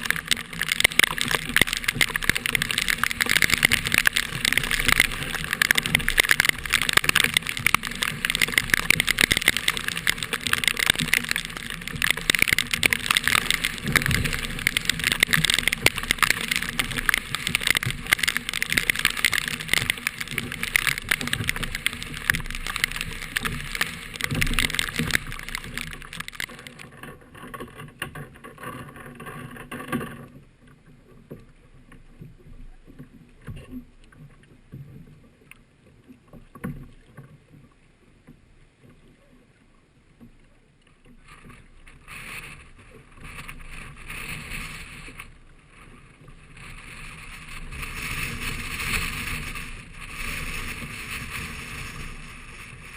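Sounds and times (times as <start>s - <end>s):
water splashing: 0.0s - 52.9s.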